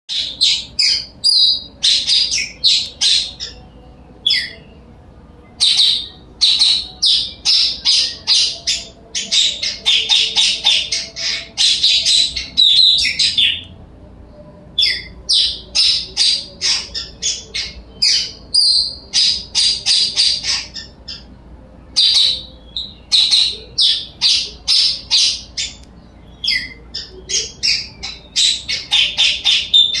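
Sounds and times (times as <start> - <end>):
parrot chirping high-pitched: 0.1 - 4.6, 5.6 - 13.6, 14.8 - 21.3, 22.0 - 30.0.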